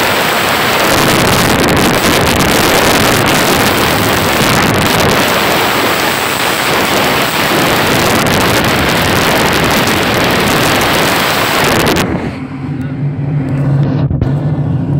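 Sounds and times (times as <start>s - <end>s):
wind buffeting microphone: 0.0s - 12.5s
airflow rushing in cockpit: 0.0s - 14.9s.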